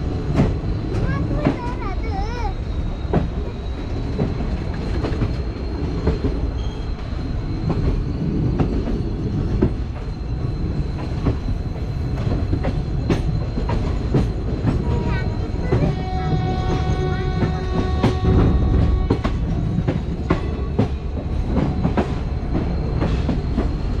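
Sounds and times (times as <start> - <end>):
train rumbling on rails: 0.0 - 24.0
wheels clacking over rail joints: 0.0 - 24.0.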